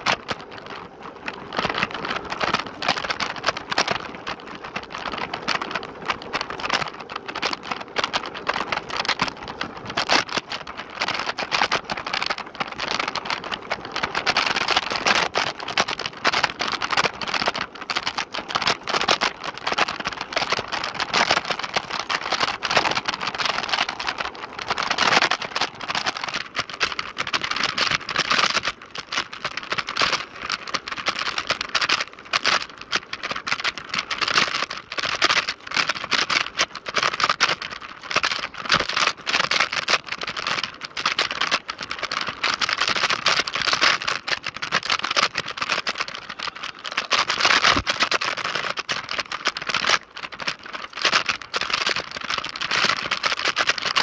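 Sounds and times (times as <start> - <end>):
electric scooter rattling: 0.0 - 54.0
road noise: 0.0 - 54.0.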